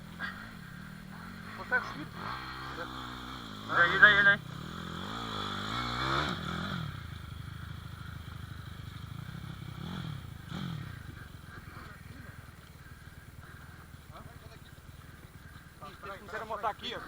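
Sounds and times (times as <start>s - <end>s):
small motorbike engine idling: 0.0s - 17.0s.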